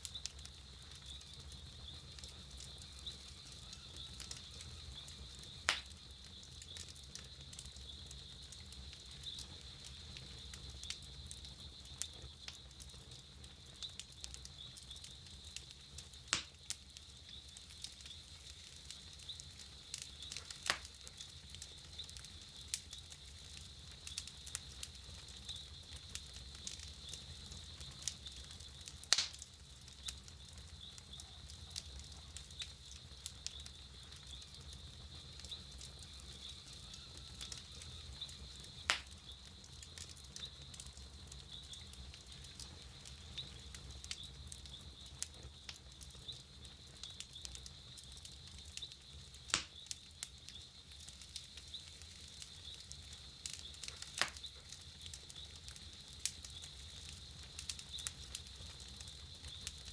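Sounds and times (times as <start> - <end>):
campfire crackling: 0.0 - 59.9
fire pops: 0.0 - 59.9.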